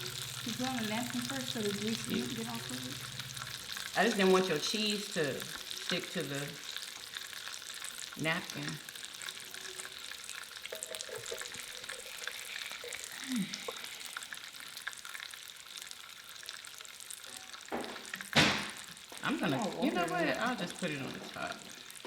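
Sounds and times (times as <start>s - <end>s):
onions sizzling on a grill: 0.0s - 22.0s.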